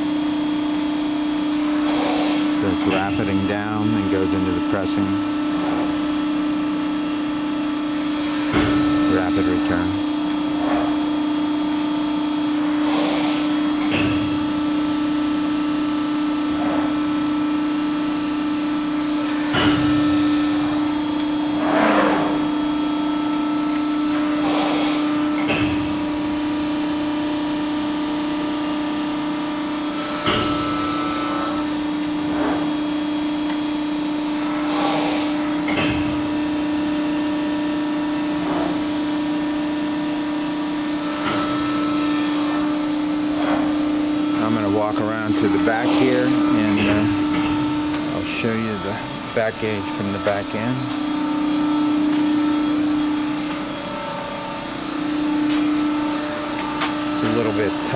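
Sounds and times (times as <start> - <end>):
hydraulic power unit humming: 0.0 - 57.9.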